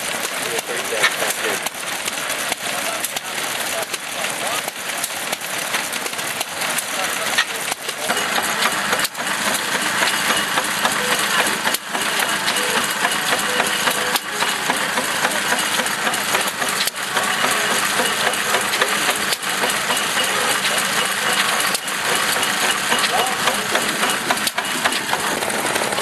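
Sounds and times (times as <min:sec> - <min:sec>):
stationary diesel engine clattering: 0:00.0 - 0:26.0.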